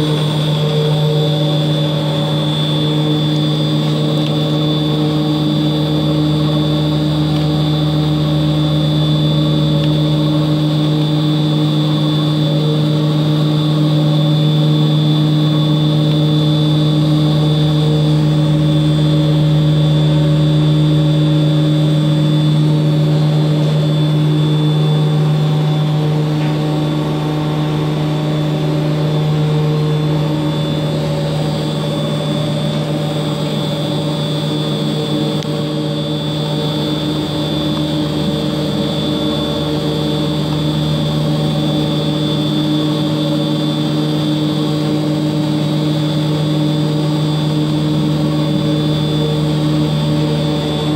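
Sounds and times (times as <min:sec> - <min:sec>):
mixer motor hum with whine: 0:00.0 - 0:50.9.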